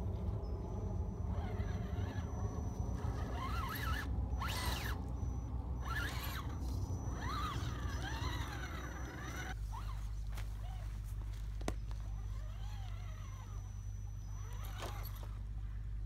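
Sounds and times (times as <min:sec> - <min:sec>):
steady low rumble: 0:00.0 - 0:14.6
electric motor and gears whining: 0:00.0 - 0:16.0.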